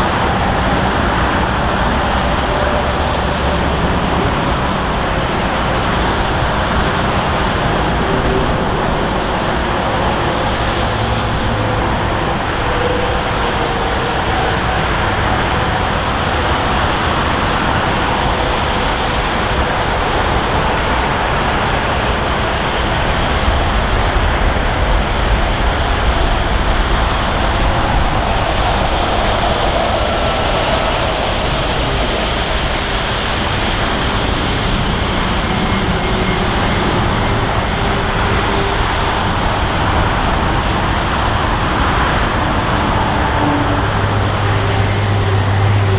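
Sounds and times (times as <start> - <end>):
jet engines rumbling: 0.0 - 45.9.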